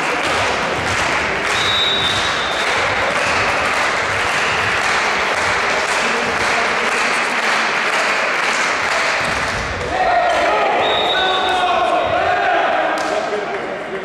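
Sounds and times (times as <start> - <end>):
spectators clapping and cheering: 0.0 - 13.8.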